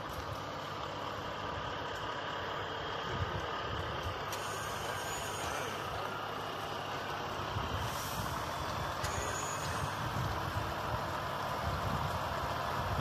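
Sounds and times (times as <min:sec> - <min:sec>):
heavy truck rolling past: 0:00.0 - 0:13.0.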